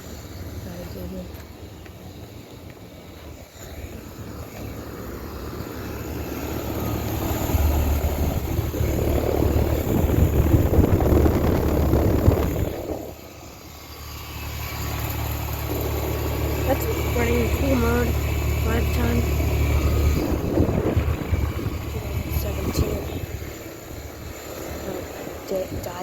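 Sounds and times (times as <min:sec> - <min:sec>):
compressor hum: 0:00.0 - 0:26.0
condenser fan rushing: 0:00.0 - 0:26.0.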